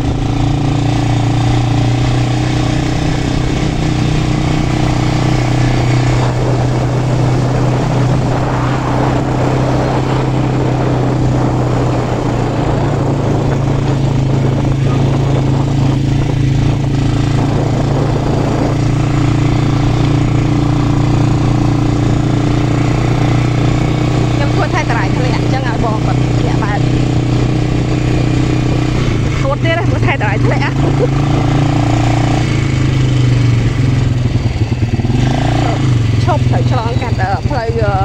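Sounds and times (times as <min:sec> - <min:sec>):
quad bike engine running: 0:00.0 - 0:38.0
wind and road noise: 0:00.0 - 0:38.0.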